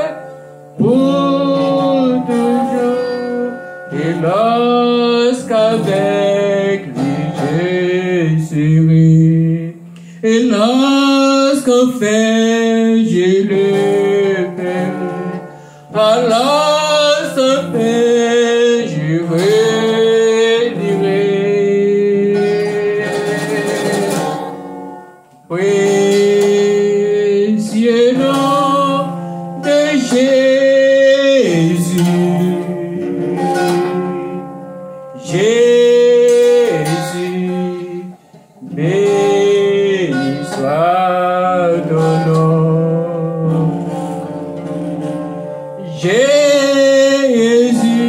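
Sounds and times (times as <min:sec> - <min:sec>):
man singing a hymn: 0:00.0 - 0:24.6, 0:25.5 - 0:45.1, 0:45.8 - 0:48.0
electric guitar: 0:00.0 - 0:48.0.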